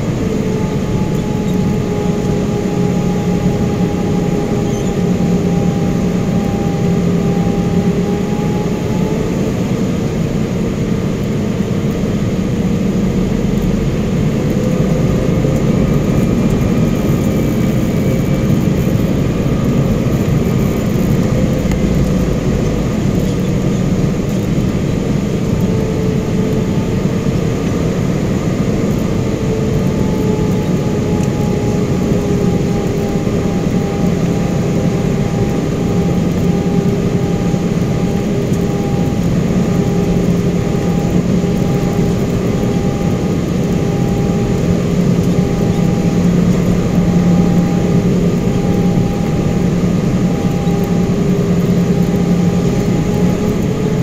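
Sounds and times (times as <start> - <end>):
jet engines running: 0.0 - 54.0
low hum: 0.0 - 54.0.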